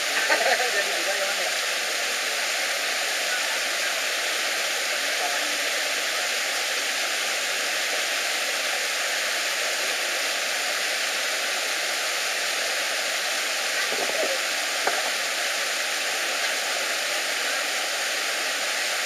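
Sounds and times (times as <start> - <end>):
water rushing over boulders: 0.0 - 19.0.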